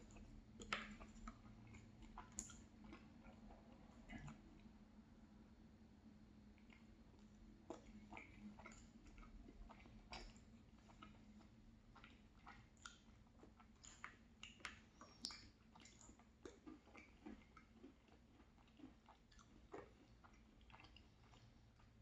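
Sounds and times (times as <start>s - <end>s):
small clicks and smacks: 0.0s - 4.7s, 6.6s - 22.0s
chewing and wet mouth sounds: 0.0s - 5.0s, 6.0s - 22.0s.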